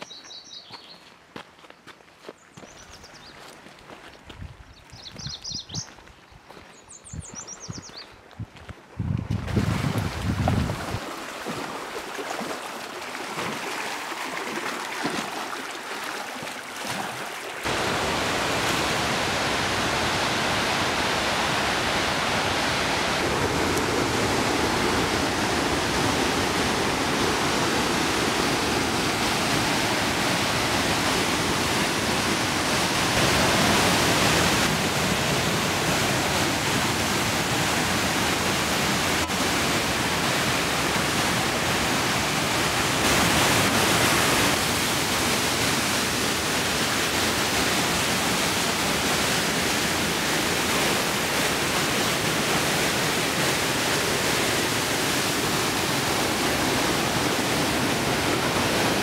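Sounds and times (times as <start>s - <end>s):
water rushing over boulders: 9.1s - 59.0s.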